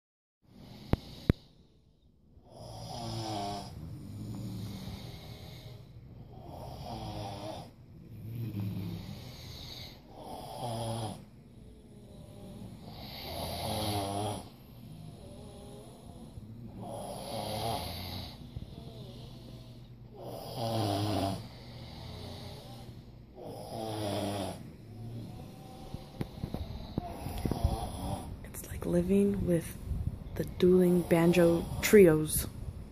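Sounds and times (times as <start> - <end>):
loud rasping snores: 2.4 - 28.4, 30.8 - 32.1.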